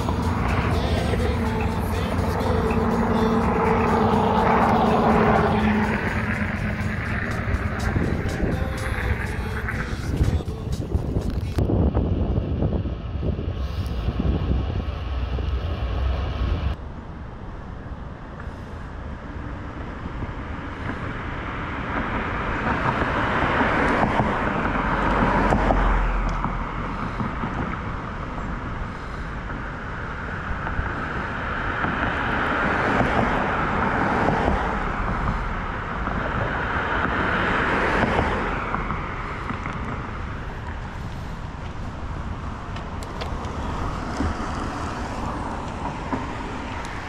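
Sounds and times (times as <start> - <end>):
wind on microphone: 0.0 - 16.8, 19.2 - 47.0
cars passing: 0.0 - 47.0.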